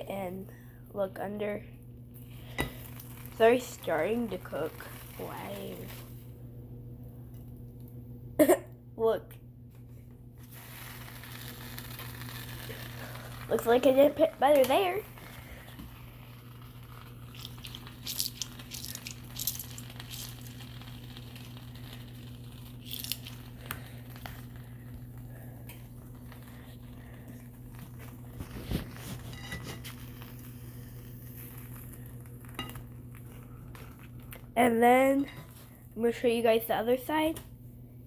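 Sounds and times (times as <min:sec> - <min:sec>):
steady low hum: 0:00.0 - 0:38.0
sandwich crackling in frying pan: 0:02.1 - 0:08.2, 0:10.3 - 0:36.2.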